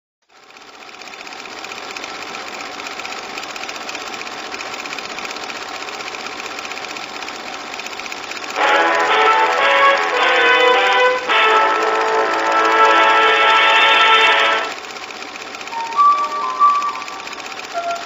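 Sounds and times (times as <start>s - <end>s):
film projector clatter: 0.3s - 18.0s.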